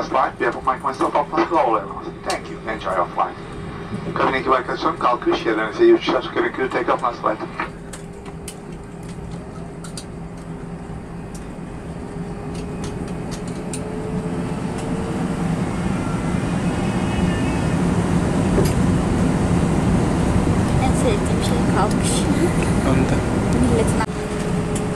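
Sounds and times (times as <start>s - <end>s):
faint rising whine: 0.8s - 20.9s.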